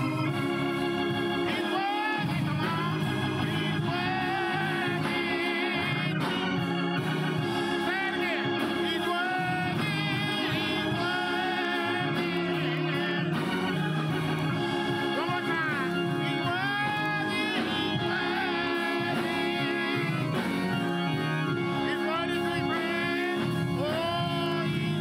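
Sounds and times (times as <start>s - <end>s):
organ playing gospel music: 0.0s - 25.0s.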